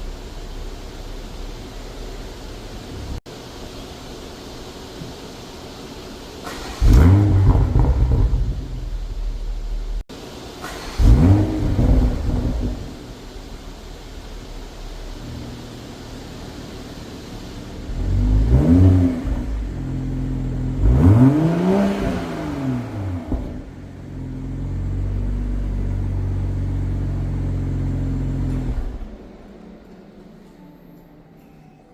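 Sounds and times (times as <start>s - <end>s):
car engine idling and revving: 0.0s - 3.3s, 5.6s - 30.5s.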